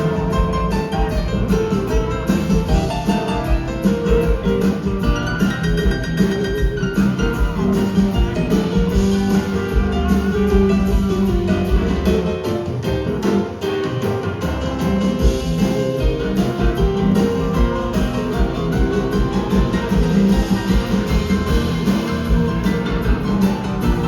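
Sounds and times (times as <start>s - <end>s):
blues rock band playing: 0.0s - 24.0s.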